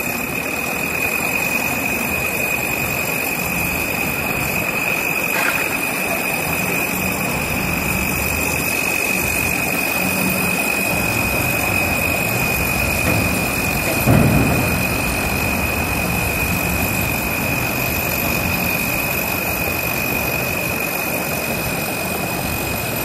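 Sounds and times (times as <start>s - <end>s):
diesel engine drone: 0.0s - 23.0s
high-pitched whine: 0.0s - 23.0s.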